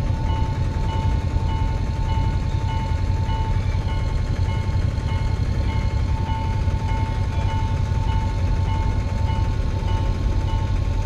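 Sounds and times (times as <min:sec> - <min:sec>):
crossing alarm ringing tone: 0:00.0 - 0:11.0.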